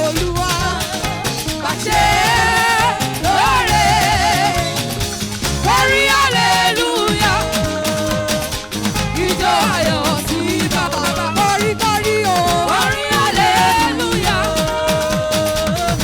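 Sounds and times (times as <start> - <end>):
bass: 0.0 - 16.0
praise band playing upbeat groove: 0.0 - 16.0
steady percussion: 0.0 - 16.0
voices singing wavering phrases: 0.0 - 16.0.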